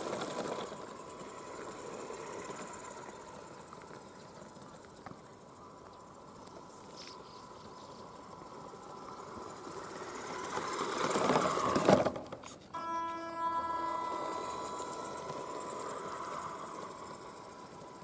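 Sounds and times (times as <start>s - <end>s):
toy truck electric motor whining: 0.0s - 18.0s.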